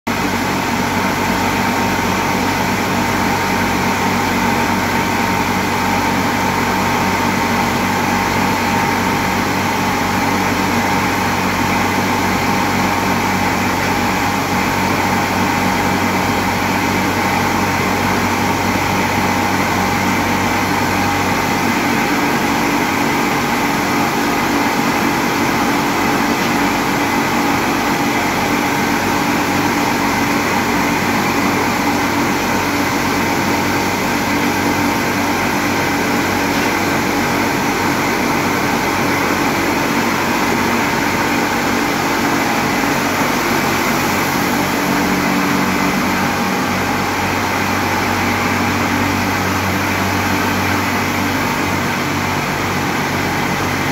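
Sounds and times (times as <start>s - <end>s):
flour mills droning: 0.1s - 53.9s.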